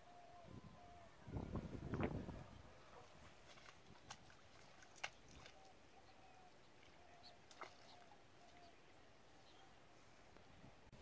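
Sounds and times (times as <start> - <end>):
distant bird calls: 0.0 - 1.7, 2.3 - 10.3.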